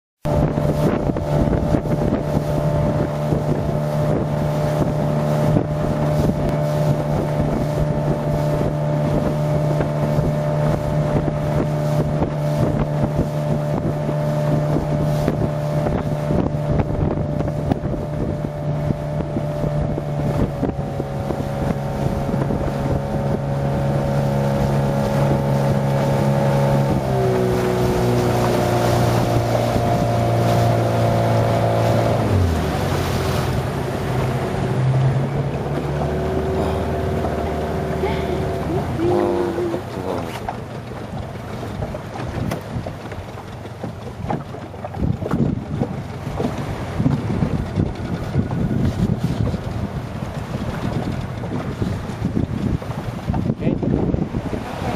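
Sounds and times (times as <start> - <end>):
motorboat engine running: 0.2 - 54.9
rush of spray and wind: 0.2 - 54.9.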